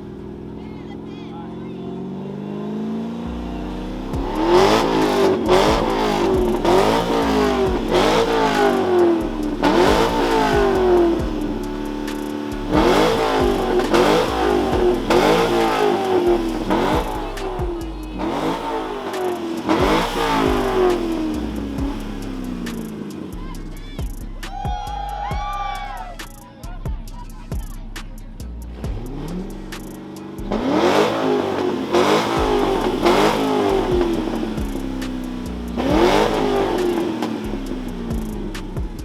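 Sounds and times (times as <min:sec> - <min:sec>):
car engine revving: 0:00.0 - 0:25.3, 0:26.0 - 0:39.0
car engine idling: 0:00.0 - 0:39.0.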